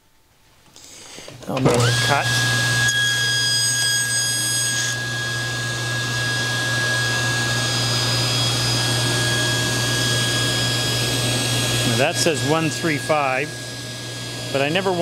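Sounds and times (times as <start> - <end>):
saw ripping wood: 1.5 - 13.7
table saw running: 1.6 - 15.0.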